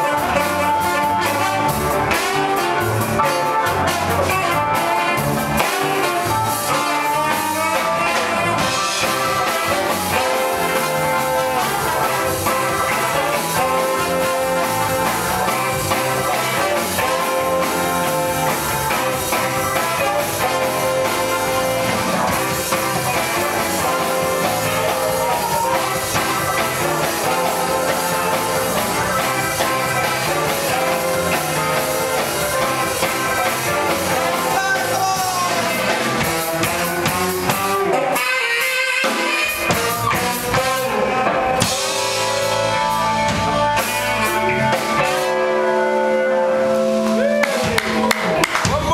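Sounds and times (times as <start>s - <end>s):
drum kit: 0.0s - 48.9s
electric guitar: 0.0s - 48.9s.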